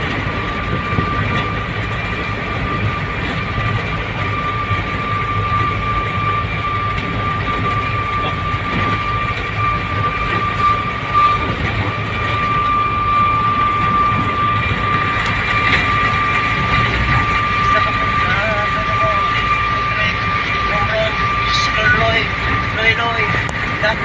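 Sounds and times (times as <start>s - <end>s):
high whine: 0.0s - 24.0s
truck engine and road rumble: 0.0s - 24.0s.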